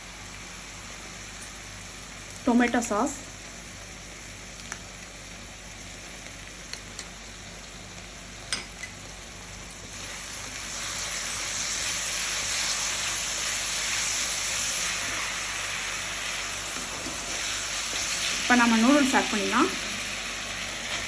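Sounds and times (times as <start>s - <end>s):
vegetables sizzling in a pan: 0.0s - 21.0s.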